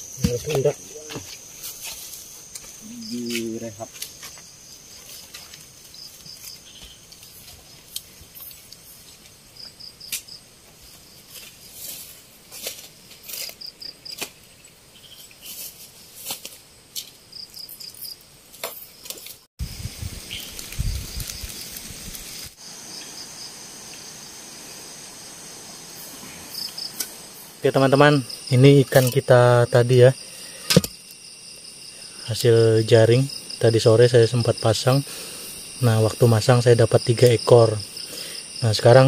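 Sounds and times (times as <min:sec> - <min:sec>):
insect trilling: 0:00.0 - 0:11.9, 0:17.3 - 0:39.0
insect chirps: 0:00.0 - 0:39.0.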